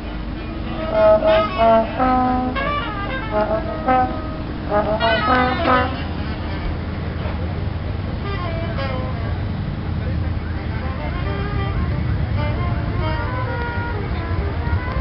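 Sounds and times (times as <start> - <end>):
brass horn playing held notes: 0.0 - 15.0
low outdoor rumble: 0.0 - 15.0.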